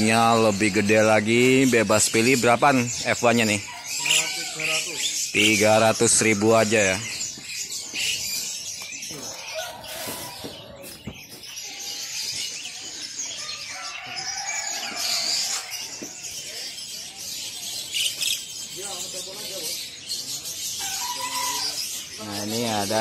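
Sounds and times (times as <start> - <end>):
faint voices talking: 0.0 - 23.0
songbirds chirping chorus: 0.0 - 23.0.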